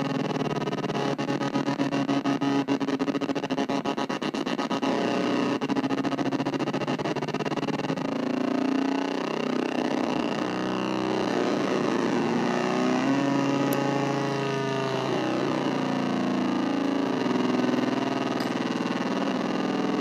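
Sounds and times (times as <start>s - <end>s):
analog synthesizer drone: 0.0s - 20.0s.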